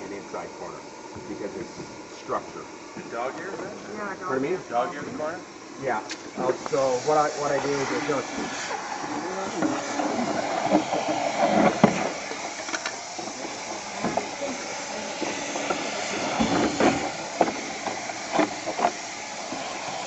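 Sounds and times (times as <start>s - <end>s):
heat gun hissing: 0.0s - 20.0s.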